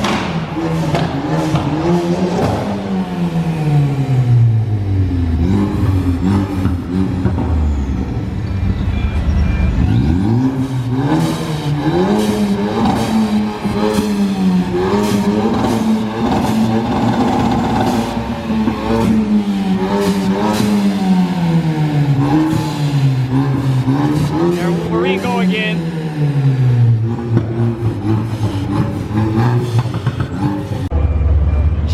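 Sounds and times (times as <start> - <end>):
car engine revving: 0.0 - 31.4
engine crackles: 5.3 - 31.9.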